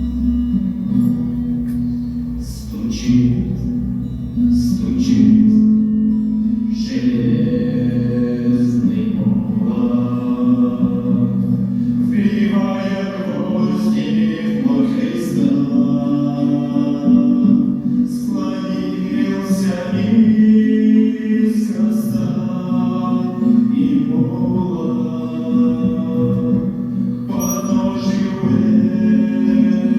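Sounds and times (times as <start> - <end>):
sustained low accompaniment: 0.0 - 29.9
voices singing together: 0.0 - 29.9.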